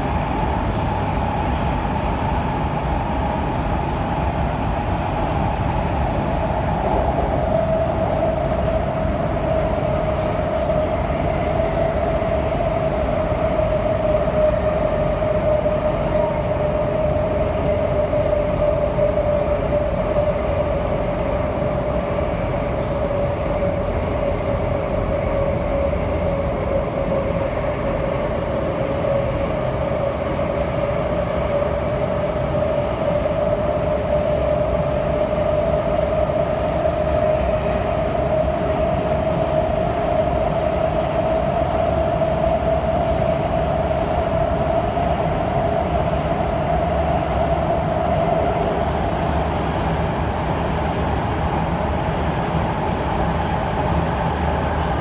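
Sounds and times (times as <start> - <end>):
wheels rumbling on track: 0.0 - 55.0.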